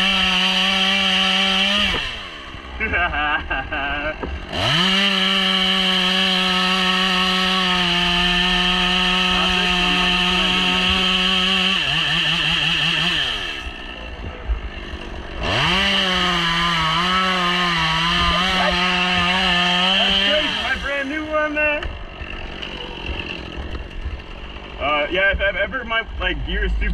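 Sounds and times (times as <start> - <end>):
chainsaw revving and idling: 0.0 - 26.3.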